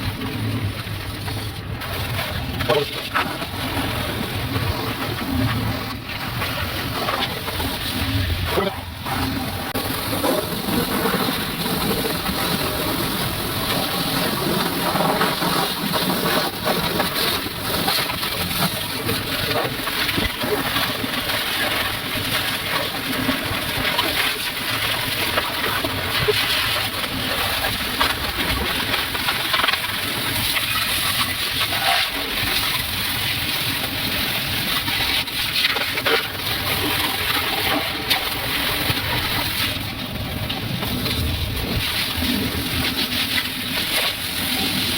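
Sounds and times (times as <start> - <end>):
water spraying and splattering: 0.0 - 44.9.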